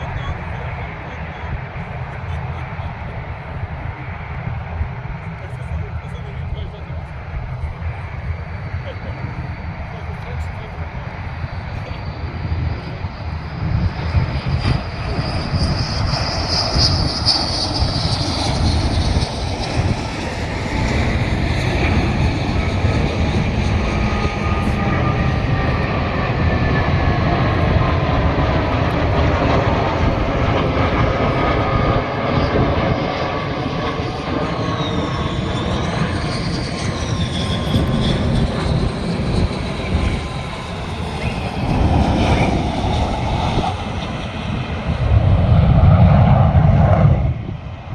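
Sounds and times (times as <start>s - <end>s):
airplane engines rumbling: 0.0s - 47.9s.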